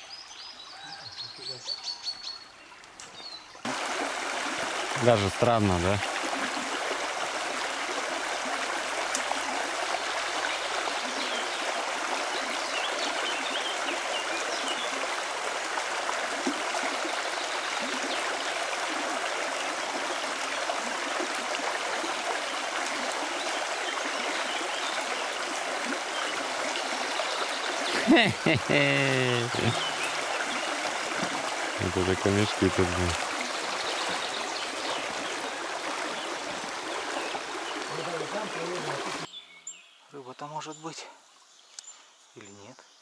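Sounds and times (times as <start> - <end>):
river flowing over stones: 3.6 - 39.3.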